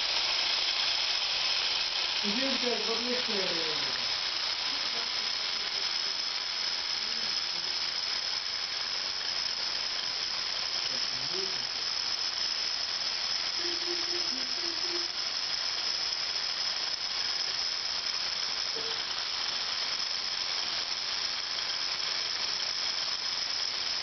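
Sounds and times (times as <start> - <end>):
hiss: 0.0 - 24.0
toy motors and gears whining: 0.0 - 24.0.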